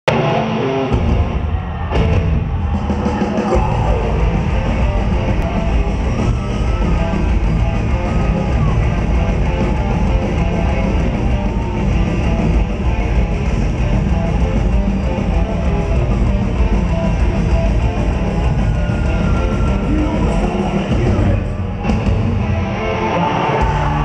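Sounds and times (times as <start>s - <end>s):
electric guitars: 0.0s - 24.0s
bass and drums: 0.1s - 24.0s
heavy metal band playing live: 0.1s - 24.0s.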